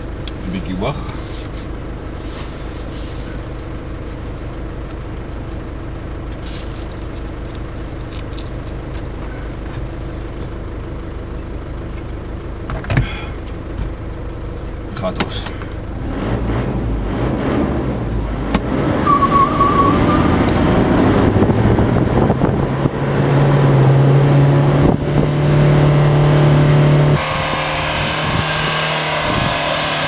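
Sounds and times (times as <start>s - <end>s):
engine running steadily: 0.0s - 30.0s.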